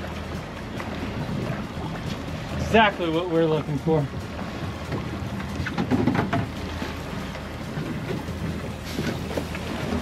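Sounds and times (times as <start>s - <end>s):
low hum: 0.0s - 10.0s
water splashing against hull: 0.0s - 10.0s.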